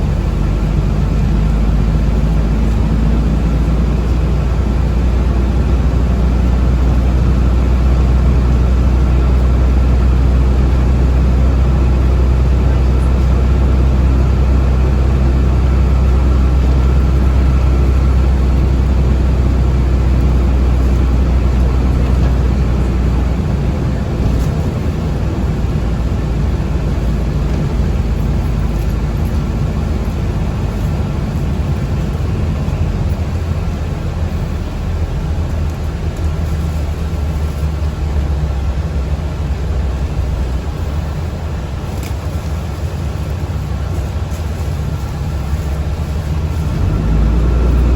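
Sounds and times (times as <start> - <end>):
vehicle cabin rumble: 0.0 - 47.9.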